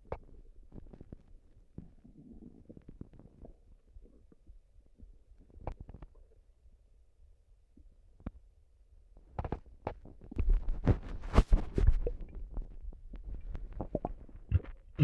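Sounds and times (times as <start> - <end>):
stomach gurgling: 0.0 - 6.5, 9.4 - 15.0.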